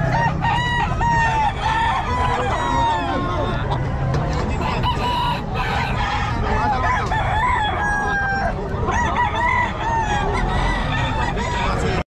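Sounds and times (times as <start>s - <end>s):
roosters crowing: 0.0s - 12.0s.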